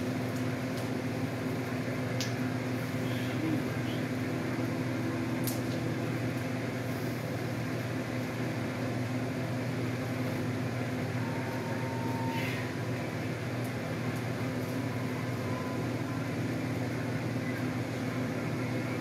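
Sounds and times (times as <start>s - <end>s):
electrical machine hum: 0.0s - 19.0s.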